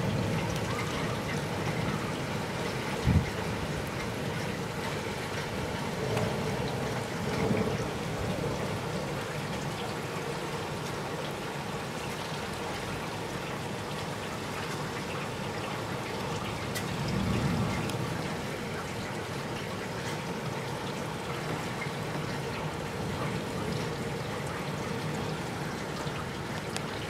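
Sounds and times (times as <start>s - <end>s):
dripping water: 0.0s - 27.0s
steady rain: 0.0s - 27.0s.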